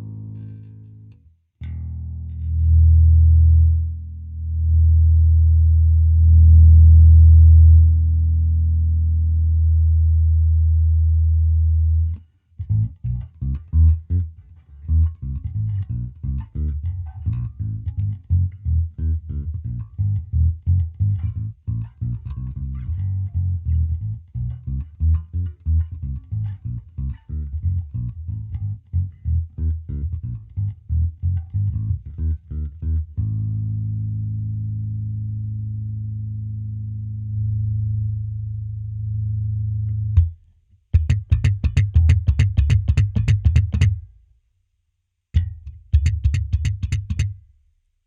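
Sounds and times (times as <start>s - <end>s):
electric bass guitar notes: 0.0s - 44.2s, 45.4s - 47.5s.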